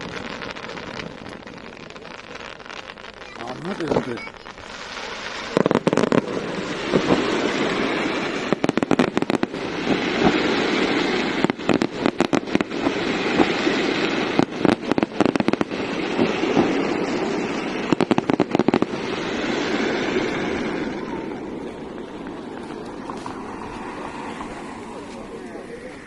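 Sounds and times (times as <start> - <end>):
fireworks crackling pops: 0.0 - 26.0
steady rushing noise: 2.8 - 26.0.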